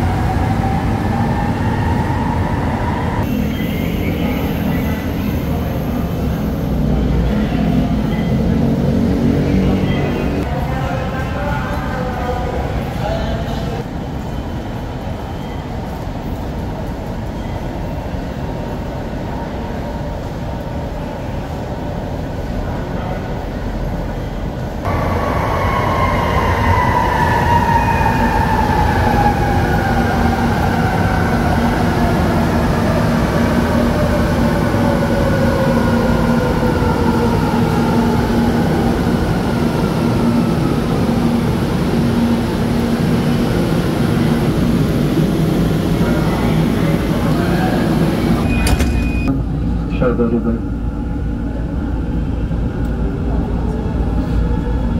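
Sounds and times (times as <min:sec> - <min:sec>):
electric train rumbling: 0:00.0 - 0:54.9.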